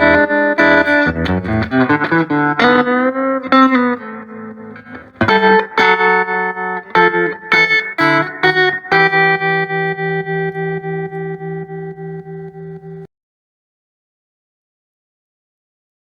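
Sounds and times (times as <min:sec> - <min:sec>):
electric guitar chords and notes: 0:00.0 - 0:13.1.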